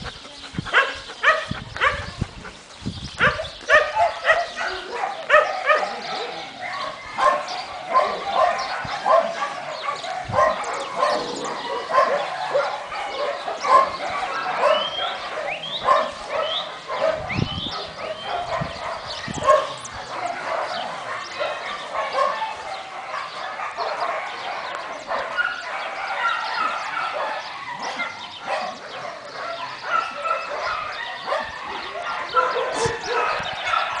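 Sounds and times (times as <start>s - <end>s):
dogs barking and yipping: 0.0s - 34.0s.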